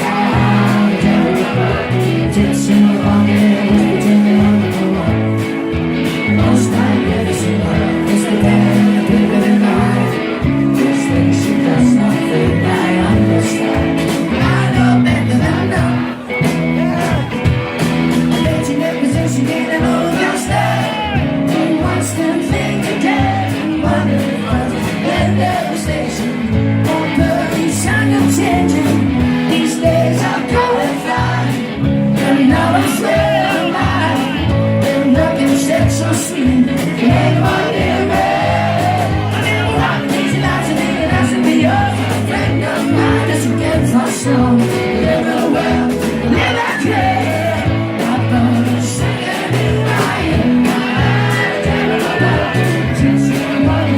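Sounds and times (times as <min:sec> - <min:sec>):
man singing: 0:00.0 - 0:17.5, 0:18.2 - 0:53.9
bass guitar: 0:00.0 - 0:53.9
drums: 0:00.0 - 0:53.9
electric guitar: 0:00.0 - 0:53.9.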